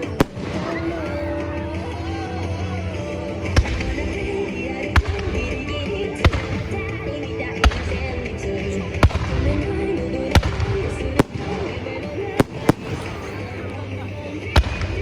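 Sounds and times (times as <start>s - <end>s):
fireworks bangs: 0.0s - 15.0s
music playing: 0.0s - 15.0s.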